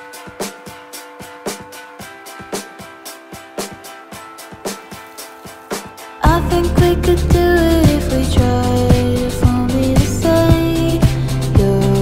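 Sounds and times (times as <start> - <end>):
pop music with heavy bass: 0.0 - 12.0.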